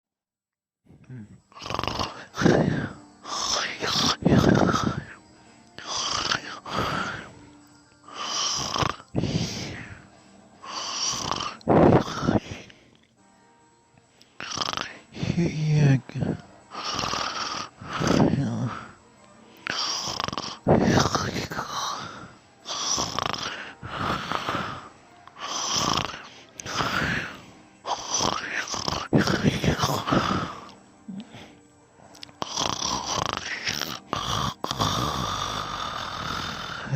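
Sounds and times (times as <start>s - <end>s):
person snoring: 1.0s - 5.2s, 5.8s - 7.4s, 8.0s - 12.7s, 14.4s - 19.0s, 19.6s - 31.6s, 32.2s - 36.9s.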